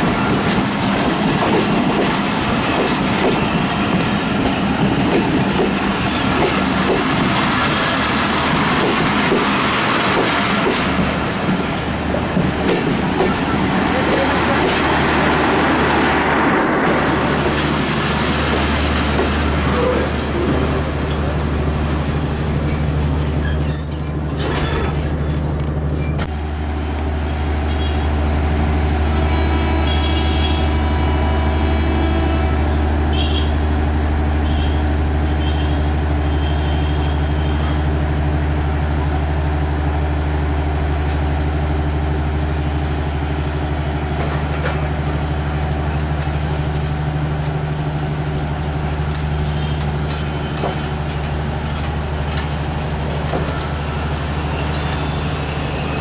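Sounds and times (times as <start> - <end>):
train cars rumbling and rattling: 0.0 - 56.0.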